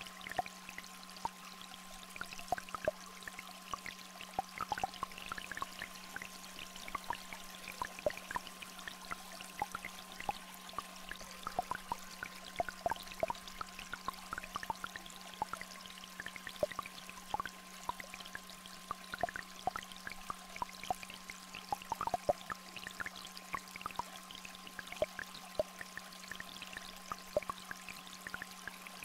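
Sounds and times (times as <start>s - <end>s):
small stream flowing: 0.0s - 29.0s.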